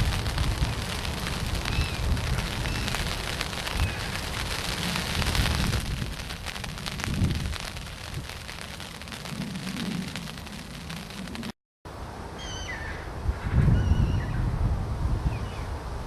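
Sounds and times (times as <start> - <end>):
wind buffeting microphone: 0.0 - 11.5, 13.1 - 16.0.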